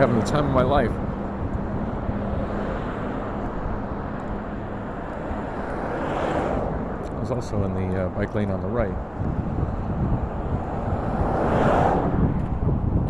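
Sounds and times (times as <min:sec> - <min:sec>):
street traffic noise: 0:00.0 - 0:13.0
vehicle passing: 0:00.0 - 0:13.0.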